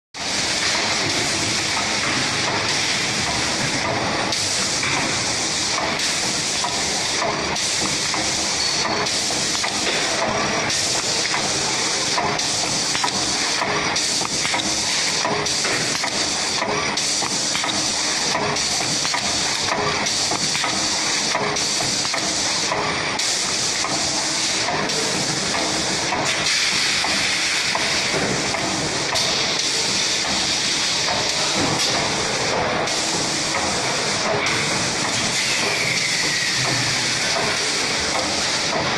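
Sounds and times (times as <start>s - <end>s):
loud machine hiss: 0.2s - 38.9s.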